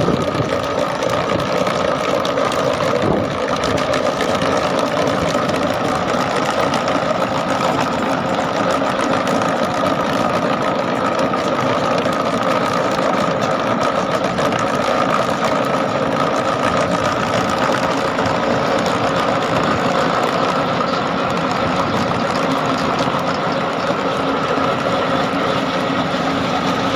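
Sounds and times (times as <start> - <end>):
tractor diesel engine under load: 0.0 - 26.9
trencher rotor cutting soil: 0.0 - 26.9.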